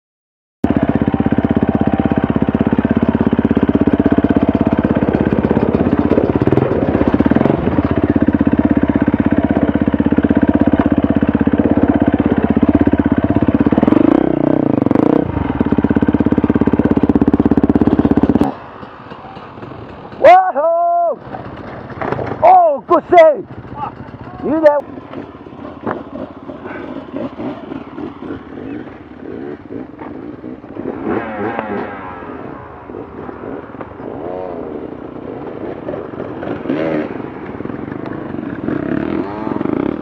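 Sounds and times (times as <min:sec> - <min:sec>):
dirt bike engine running: 0:00.6 - 0:40.0.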